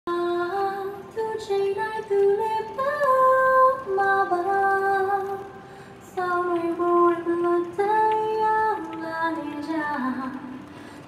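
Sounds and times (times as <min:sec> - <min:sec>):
woman singing slow melody: 0:00.1 - 0:10.7.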